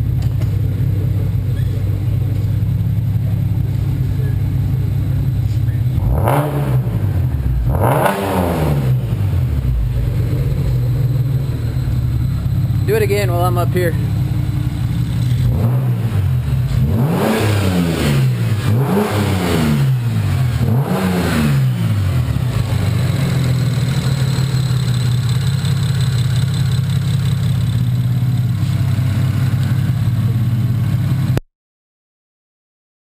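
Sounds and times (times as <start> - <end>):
car engine idling and revving: 0.0 - 31.4.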